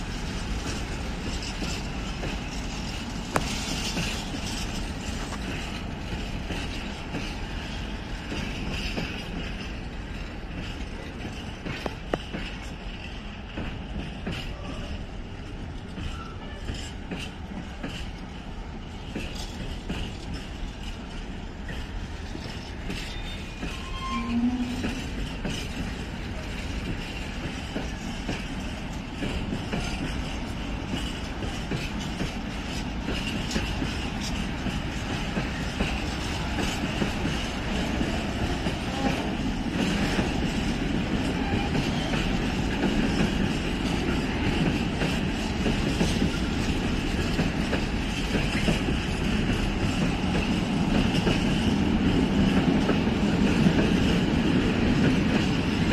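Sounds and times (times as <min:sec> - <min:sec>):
train wheels rumbling on rails: 0:00.0 - 0:55.9
wheels clattering over rail joints: 0:00.0 - 0:55.9.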